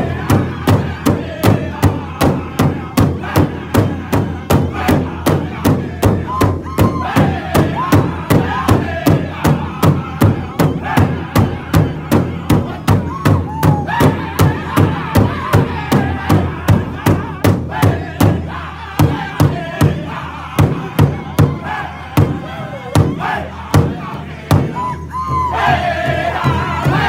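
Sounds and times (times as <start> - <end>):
group singing in high unison: 0.0 - 27.0
large drum beaten steadily: 0.0 - 27.0.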